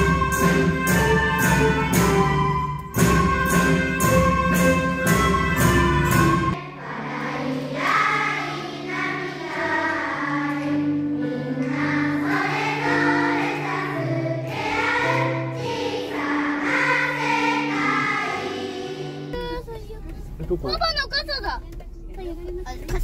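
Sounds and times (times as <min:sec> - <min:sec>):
children's choir singing: 0:00.0 - 0:19.4
low instrumental accompaniment: 0:00.0 - 0:20.6.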